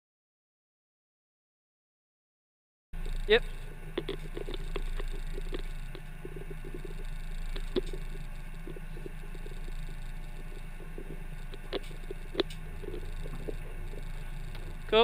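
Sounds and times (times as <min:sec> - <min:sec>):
race car engine idling: 0:03.0 - 0:15.0.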